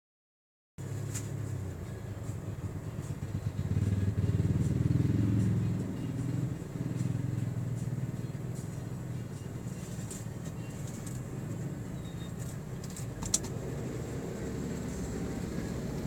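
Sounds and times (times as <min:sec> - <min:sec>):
car engine running: 0:00.8 - 0:16.0.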